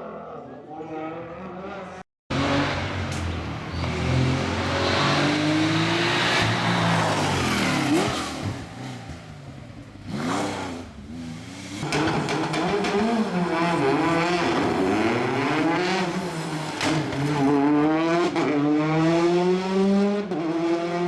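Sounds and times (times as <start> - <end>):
rally car engine revving: 1.6 - 21.0.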